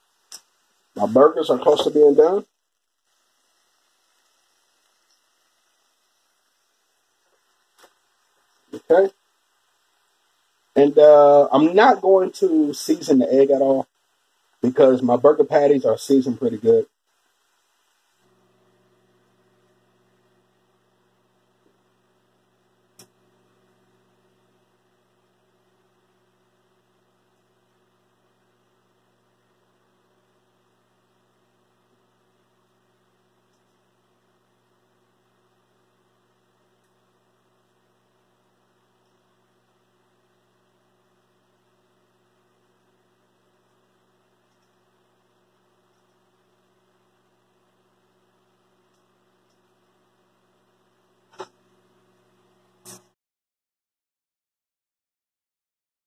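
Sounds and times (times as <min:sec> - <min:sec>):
faint mains hum: 0:00.0 - 0:53.2.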